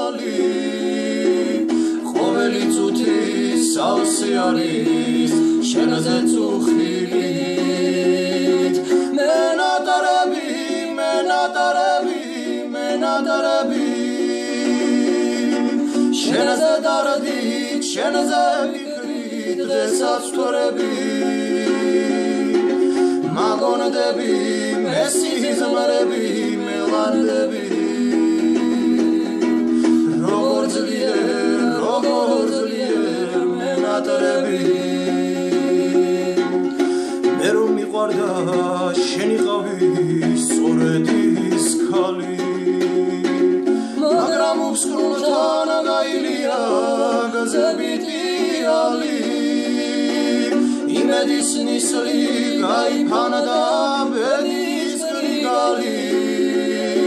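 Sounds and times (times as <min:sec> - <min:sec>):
plucked string instrument: 0:00.0 - 0:57.0
two men singing in harmony: 0:00.0 - 0:57.0.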